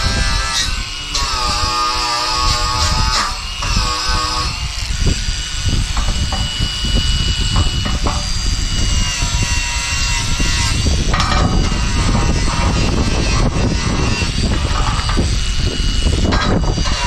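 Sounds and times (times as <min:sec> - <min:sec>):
angle grinder on steel: 0:00.0 - 0:17.0.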